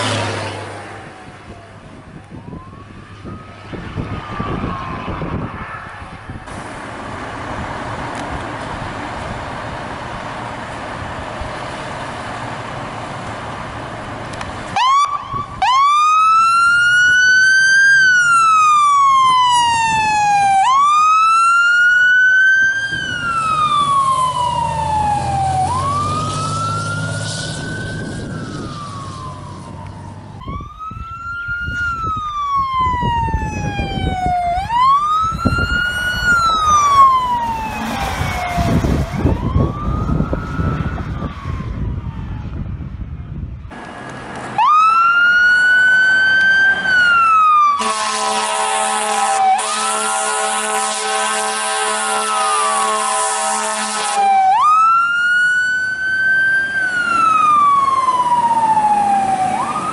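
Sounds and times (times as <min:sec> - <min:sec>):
fire truck siren wailing: 0:00.0 - 0:59.9
steady traffic noise: 0:00.0 - 0:59.9
truck engine rumbling: 0:00.0 - 0:59.9.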